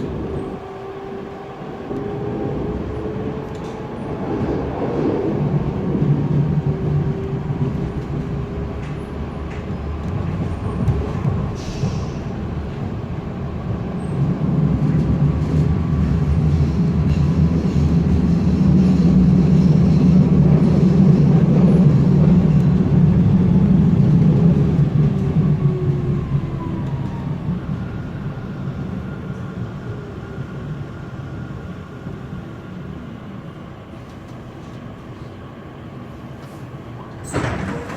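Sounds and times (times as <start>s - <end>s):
train wheels rumbling on track: 0.0s - 37.9s.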